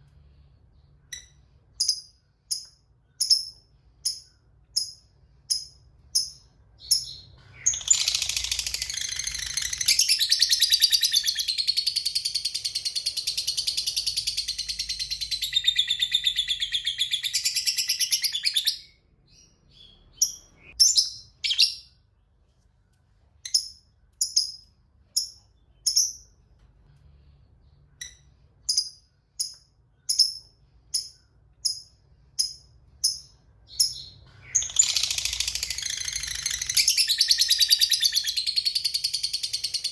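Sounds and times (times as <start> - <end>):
bird chirps: 0.3 - 22.2, 23.4 - 26.5, 27.1 - 39.9.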